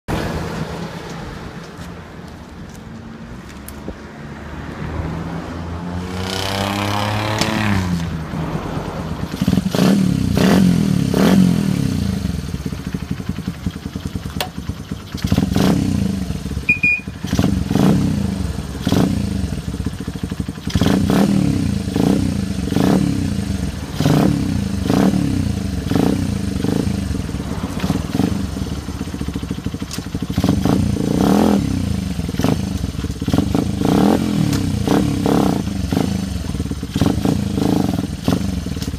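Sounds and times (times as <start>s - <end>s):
motorcycle engine revving: 4.2s - 38.9s.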